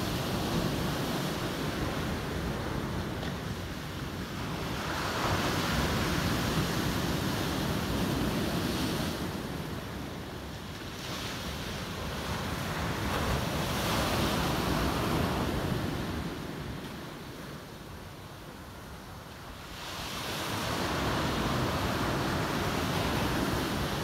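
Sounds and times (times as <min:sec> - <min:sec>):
ocean surf washing ashore: 0:00.0 - 0:24.0
wind on microphone: 0:00.0 - 0:24.0.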